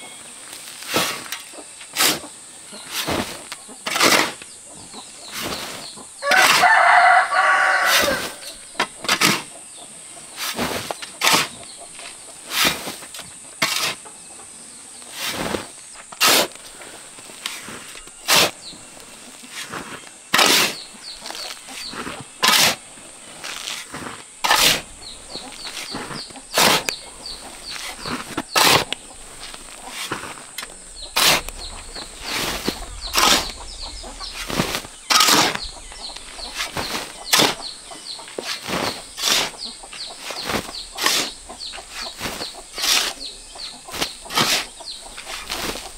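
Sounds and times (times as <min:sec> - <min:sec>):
faint bird chirps: 0:00.0 - 0:12.5, 0:14.1 - 0:45.9
metal shovel scraping concrete: 0:00.1 - 0:04.5, 0:05.2 - 0:09.5, 0:10.4 - 0:11.6, 0:12.4 - 0:14.0, 0:15.1 - 0:18.6, 0:19.4 - 0:45.9.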